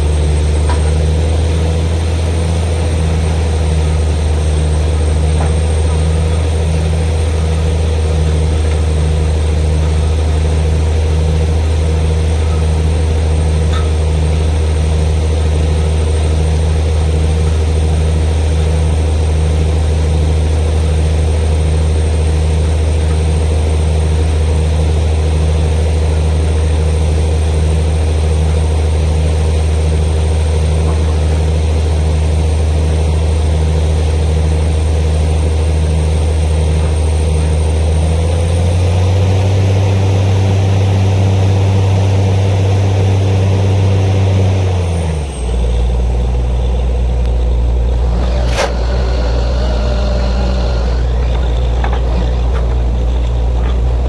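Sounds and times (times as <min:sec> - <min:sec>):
drilling rig engine drone: 0:00.0 - 0:54.0.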